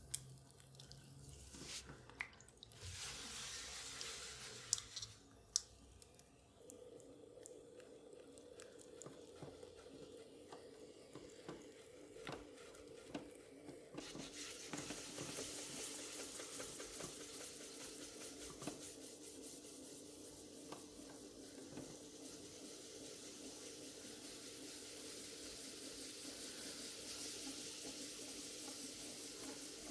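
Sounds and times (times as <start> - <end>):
wet clay on pottery wheel: 0.0 - 29.9.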